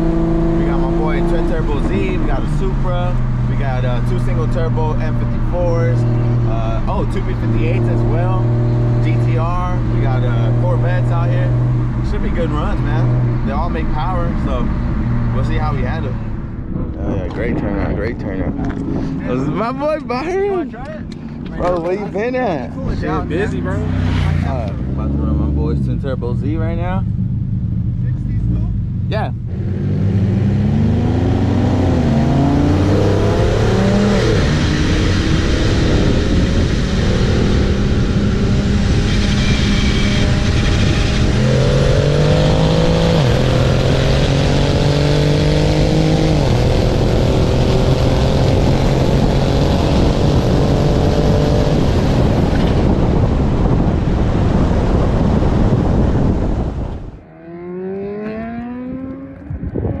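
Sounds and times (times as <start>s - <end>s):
car engine at full throttle: 0.0s - 60.0s
wind and road noise: 0.0s - 60.0s.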